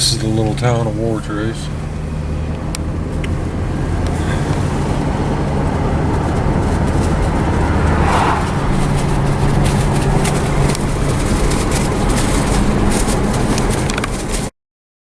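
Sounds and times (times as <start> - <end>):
car engine and road noise: 0.0 - 14.5.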